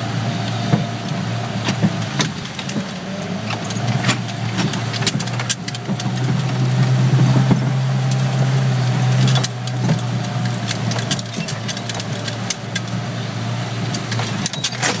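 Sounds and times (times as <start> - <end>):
vehicle engine running in cabin: 0.0 - 15.0
loose parts rattling and clinking: 0.8 - 15.0.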